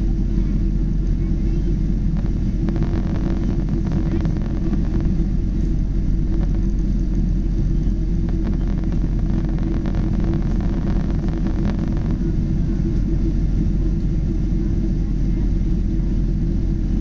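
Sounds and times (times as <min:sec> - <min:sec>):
airliner engines and airflow rumble: 0:00.0 - 0:17.0.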